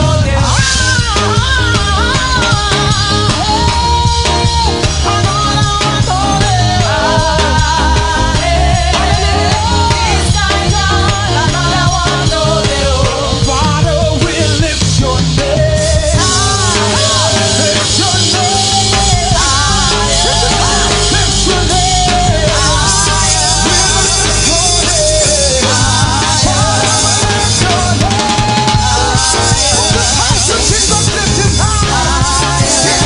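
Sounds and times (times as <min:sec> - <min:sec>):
bass: 0:00.0 - 0:33.0
drum kit: 0:00.0 - 0:33.0
gospel music: 0:00.0 - 0:33.0.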